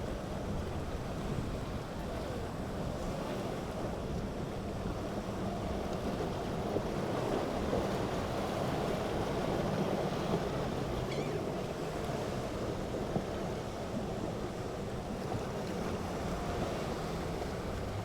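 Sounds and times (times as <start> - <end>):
waves and surf washing: 0.0 - 18.0
boat engine hum: 3.4 - 18.0.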